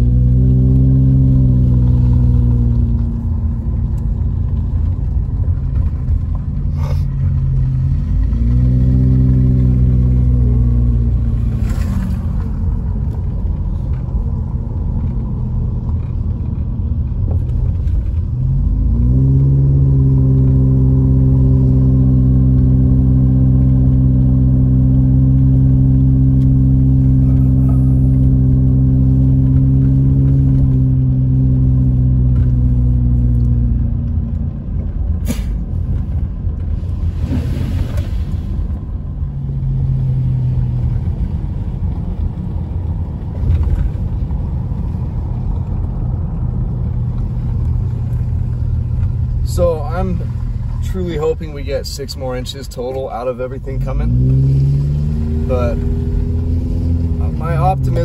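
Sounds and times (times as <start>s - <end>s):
car engine pulling under load: 0.0s - 58.0s
low road rumble: 0.0s - 58.0s.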